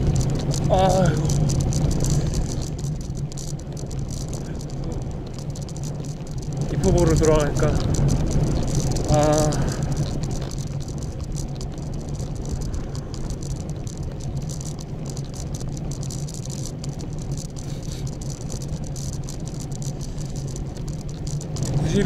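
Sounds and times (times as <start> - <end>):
bicycle tyres rolling hum: 0.0 - 22.0
bike and luggage rattling: 0.0 - 22.0.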